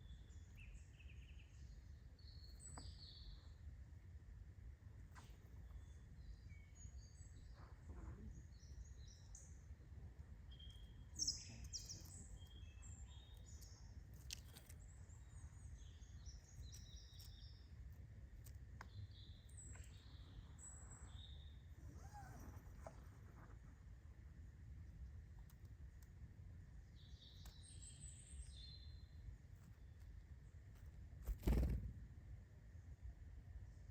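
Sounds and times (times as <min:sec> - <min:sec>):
small birds chirping: 0:00.0 - 0:04.2, 0:05.0 - 0:33.9
faint low outdoor rumble: 0:00.0 - 0:33.9.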